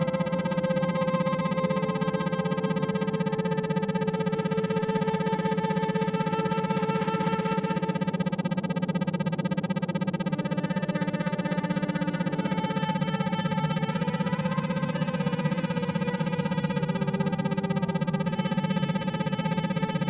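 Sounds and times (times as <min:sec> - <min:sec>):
pulsing synthesized drone: 0:00.0 - 0:20.0.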